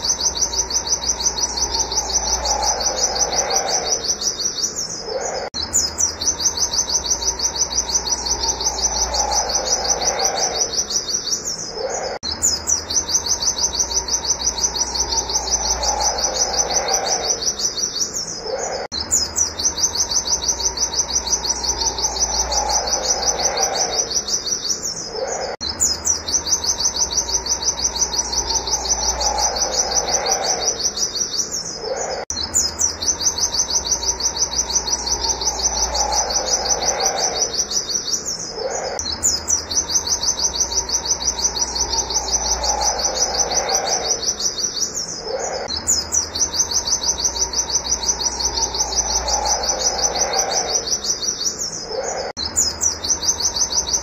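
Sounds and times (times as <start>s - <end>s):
bird singing rapid high notes: 0.0s - 54.0s
lower falling bird call: 0.0s - 54.0s.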